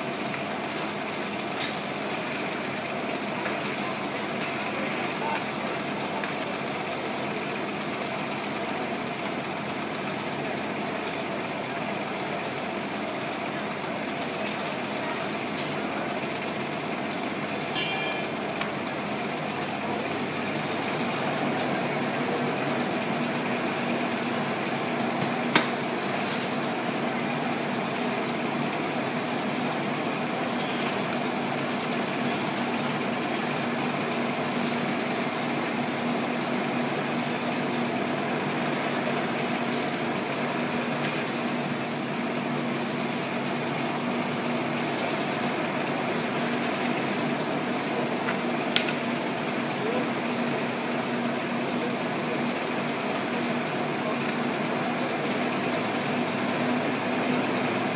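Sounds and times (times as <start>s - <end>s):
diesel engines running: 0.0s - 57.9s.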